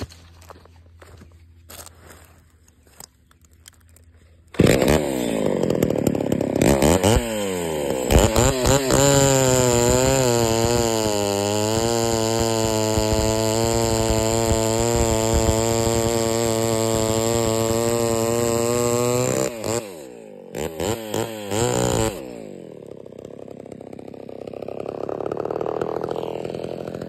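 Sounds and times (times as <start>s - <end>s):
chainsaw cutting log: 0.0s - 27.0s
chainsaw engine revving: 3.6s - 27.0s.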